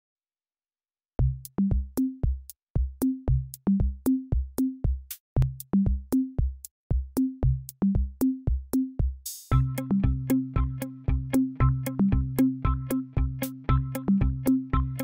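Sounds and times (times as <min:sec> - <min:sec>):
electronic drum machine beat: 0:01.2 - 0:15.0.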